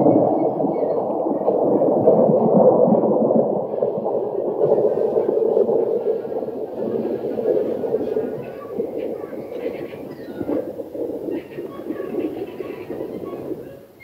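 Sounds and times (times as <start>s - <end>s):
low rumbling thunder: 0.0s - 13.7s.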